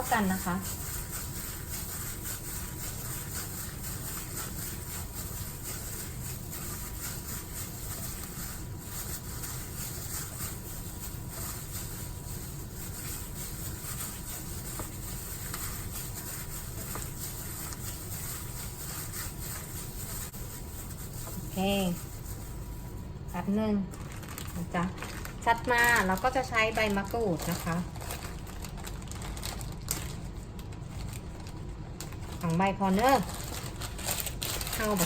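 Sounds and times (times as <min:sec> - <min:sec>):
hands squishing wet meat mixture: 0:00.0 - 0:35.0.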